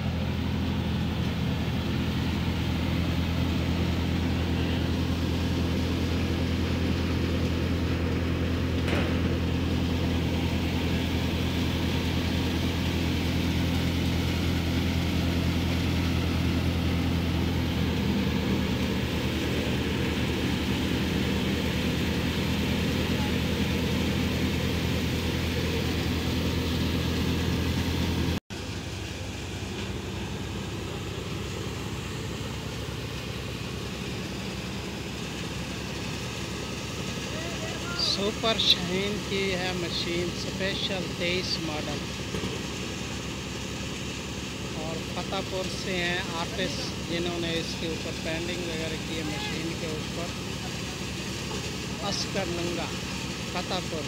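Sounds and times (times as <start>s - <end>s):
tractor engine drone: 0.0s - 54.0s
wheat thresher running: 0.0s - 54.0s.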